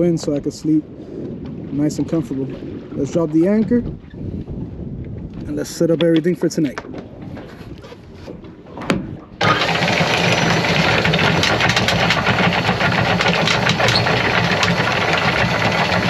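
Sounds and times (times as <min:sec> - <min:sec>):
windlass motor hum: 0:00.0 - 0:16.0.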